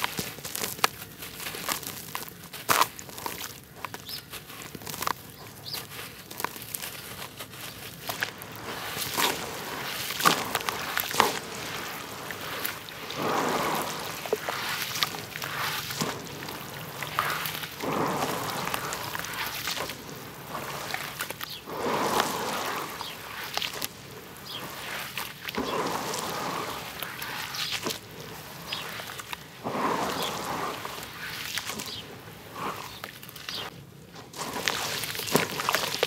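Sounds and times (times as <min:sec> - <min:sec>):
hands squelching mud in water: 0:00.0 - 0:36.0.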